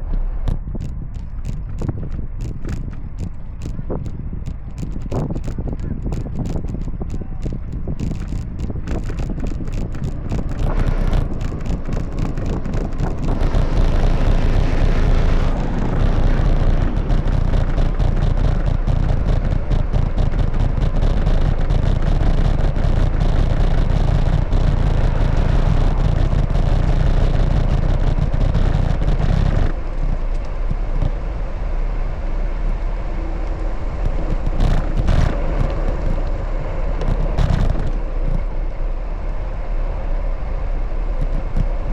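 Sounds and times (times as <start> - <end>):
road traffic noise: 0.0 - 41.9
wind buffeting microphone: 0.0 - 41.9.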